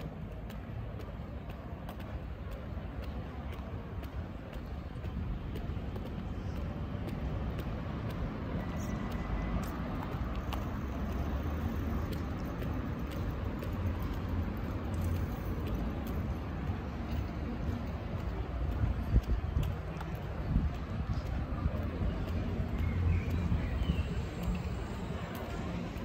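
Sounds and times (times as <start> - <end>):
light footsteps: 0.0 - 26.0
low rumble of car traffic: 0.0 - 26.0.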